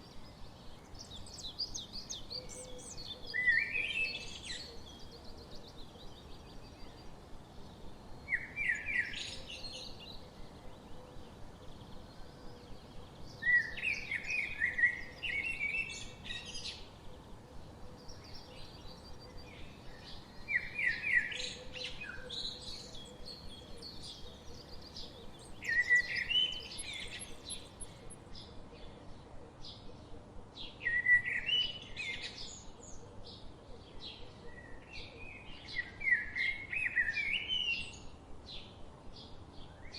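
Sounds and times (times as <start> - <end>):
birds chirping quietly: 0.0 - 39.9.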